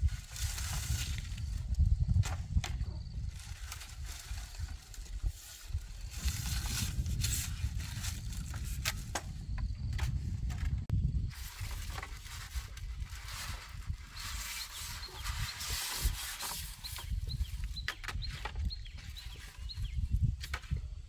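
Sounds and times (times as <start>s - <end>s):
dry bamboo leaves rustling: 0.0s - 17.6s.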